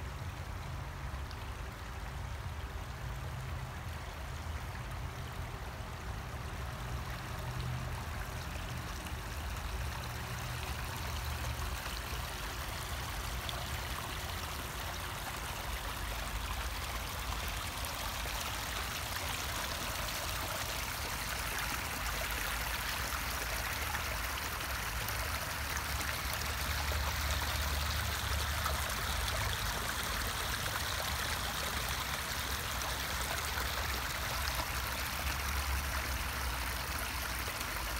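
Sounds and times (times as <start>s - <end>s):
running water rushing: 0.0s - 37.9s.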